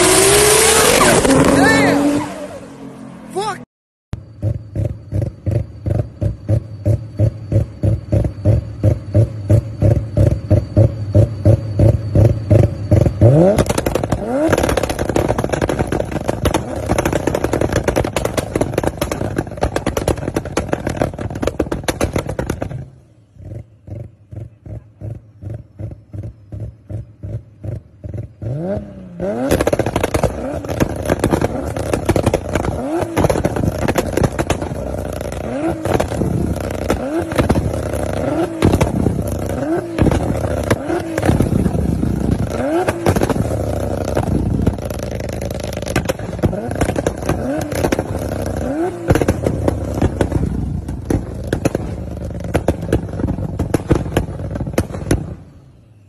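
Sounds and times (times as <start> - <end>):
car engine revving: 0.0 - 3.6, 4.2 - 56.0
exhaust pops and bangs: 4.4 - 55.8.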